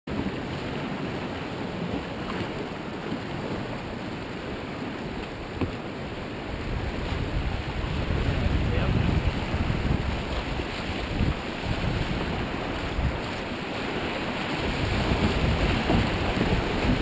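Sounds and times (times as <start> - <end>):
rapids rushing: 0.1 - 17.0.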